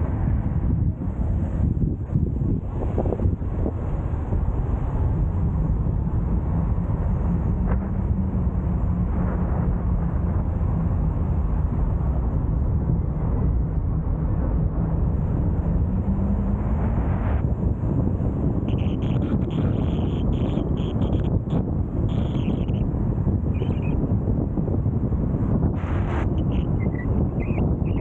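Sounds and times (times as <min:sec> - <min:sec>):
car engine and road noise: 0:00.0 - 0:28.0
wind buffeting microphone: 0:00.0 - 0:28.0.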